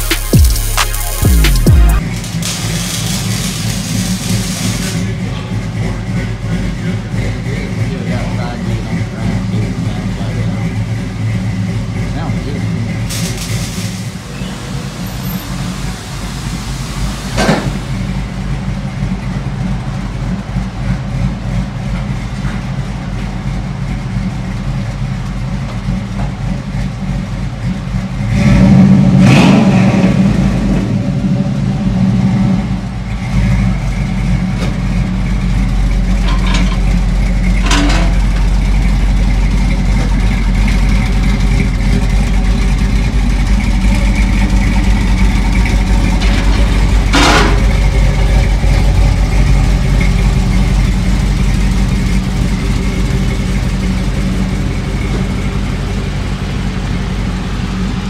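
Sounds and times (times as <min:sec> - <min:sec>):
v eight engine idling and revving: 0:00.0 - 0:58.0.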